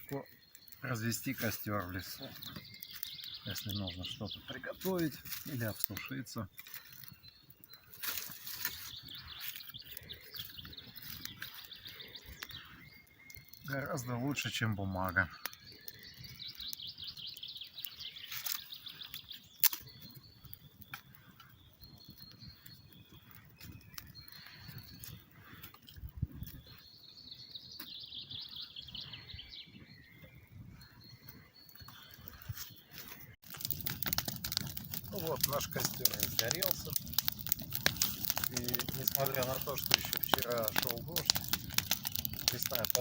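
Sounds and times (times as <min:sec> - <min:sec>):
campfire crackling: 0:00.0 - 0:43.0
small birds chirping: 0:00.0 - 0:43.0.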